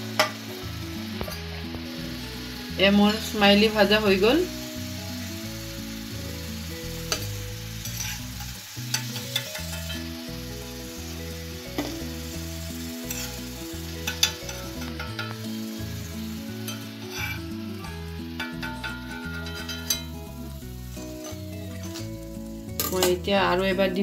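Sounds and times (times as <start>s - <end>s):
food sizzling in hot oil: 0.0s - 24.0s
soft background music: 0.0s - 24.0s.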